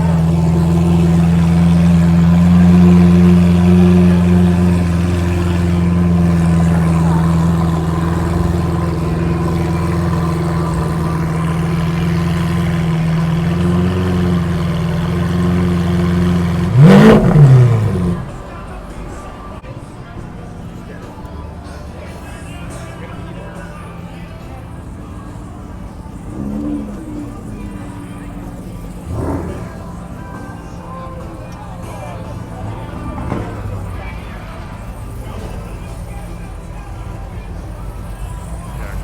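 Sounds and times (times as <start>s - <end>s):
car engine idling and revving: 0.0s - 19.6s, 20.6s - 39.0s.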